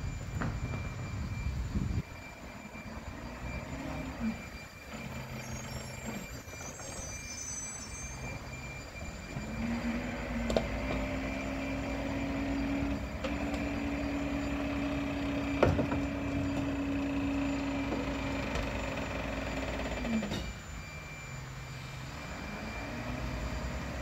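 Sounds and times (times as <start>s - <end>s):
garbage truck engine running: 0.0s - 24.0s.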